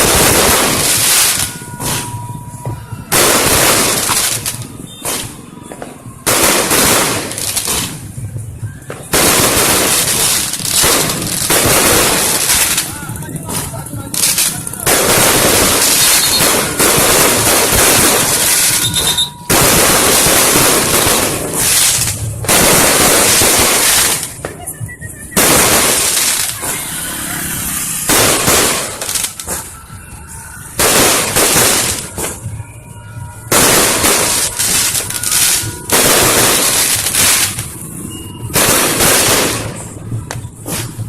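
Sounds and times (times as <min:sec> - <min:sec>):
fireworks bangs and crackle: 0:00.0 - 0:41.0.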